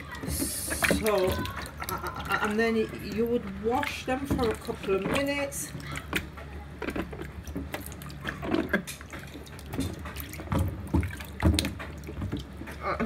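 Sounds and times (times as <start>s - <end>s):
water sloshing in a sink: 0.0s - 13.0s.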